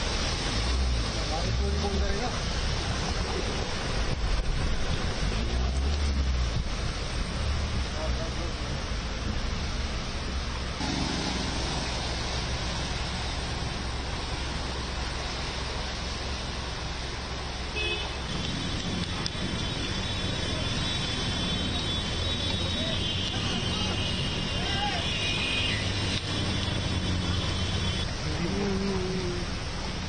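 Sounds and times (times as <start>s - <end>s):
floodwater rushing and splashing: 0.0s - 30.0s
low traffic hum: 0.0s - 30.0s
vehicles wading through water: 0.0s - 30.0s.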